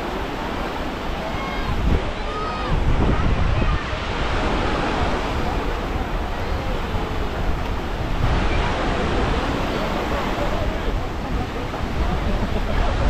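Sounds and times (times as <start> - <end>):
faint voices: 0.0 - 13.0
surf: 0.0 - 13.0
wind: 0.0 - 13.0.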